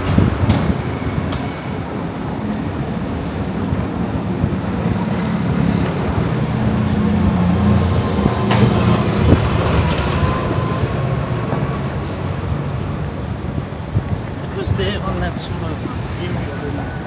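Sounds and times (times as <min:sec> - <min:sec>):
large vehicle rumbling past: 0:00.0 - 0:17.0.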